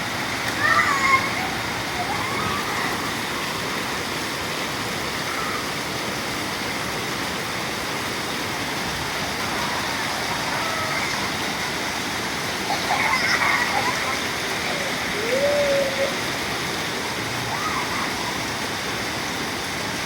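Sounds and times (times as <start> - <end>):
steady downpour of rain: 0.0 - 20.0.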